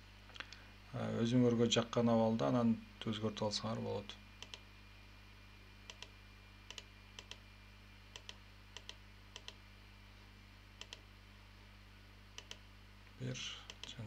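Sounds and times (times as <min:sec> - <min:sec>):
faint low electrical hum: 0:00.0 - 0:14.0.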